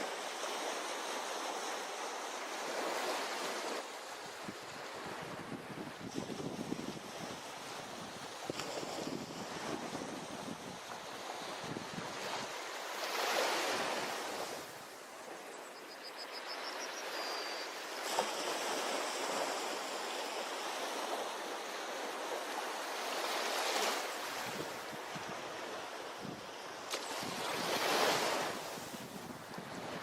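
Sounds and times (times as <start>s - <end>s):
ocean surf on a beach: 0.0s - 15.7s, 16.8s - 30.0s.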